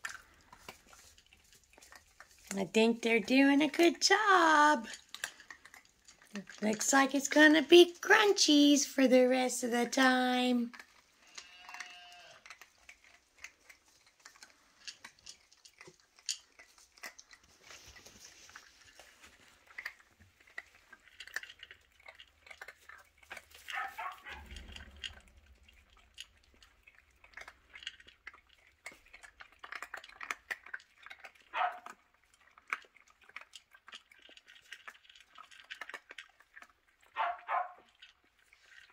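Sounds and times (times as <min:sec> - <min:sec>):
puppies crunching dry kibble: 0:00.0 - 0:38.9.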